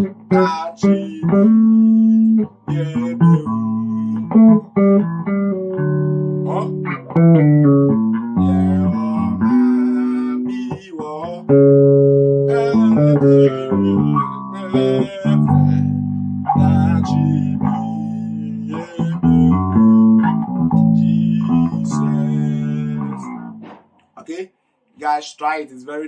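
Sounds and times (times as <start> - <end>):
bass guitar plucked notes: 0.0 - 23.8.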